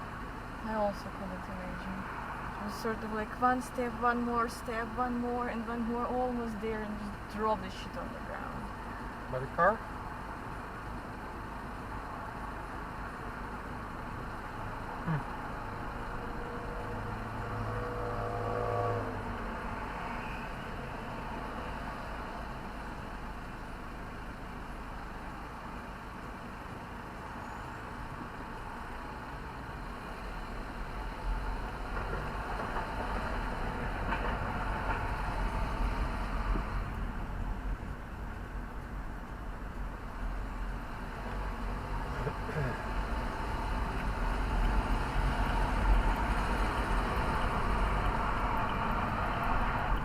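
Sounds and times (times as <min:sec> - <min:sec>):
car running: 0:00.0 - 0:50.0
moving vehicle rumble: 0:00.0 - 0:50.0.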